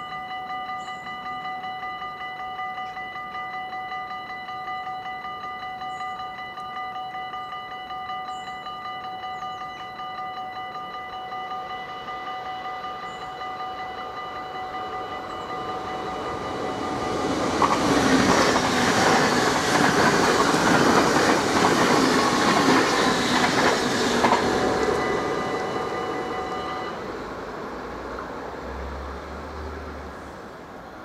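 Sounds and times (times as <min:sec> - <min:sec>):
level crossing warning bells: 0:00.0 - 0:27.8
train passing at speed: 0:02.0 - 0:31.0.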